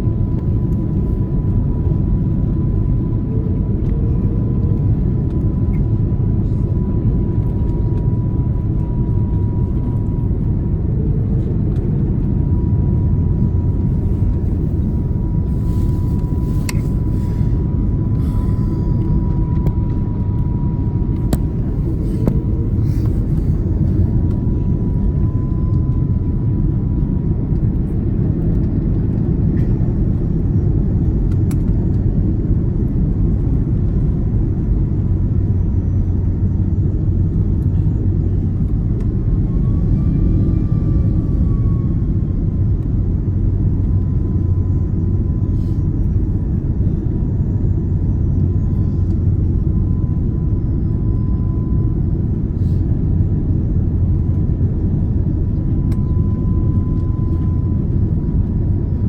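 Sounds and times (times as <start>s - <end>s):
aircraft cabin low rumble: 0.0s - 59.0s
faint steady whine: 0.0s - 59.0s.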